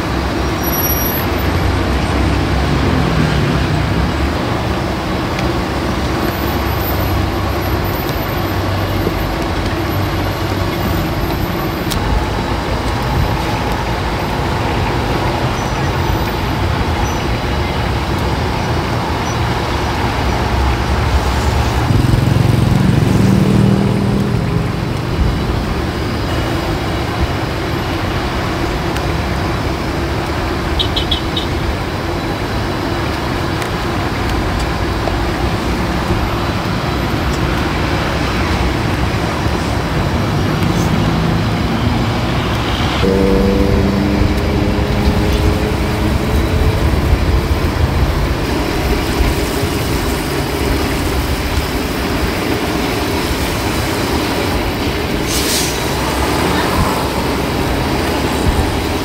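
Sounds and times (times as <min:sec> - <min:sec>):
road traffic: 0:00.0 - 0:59.0
heavy engine passing: 0:01.2 - 0:59.0.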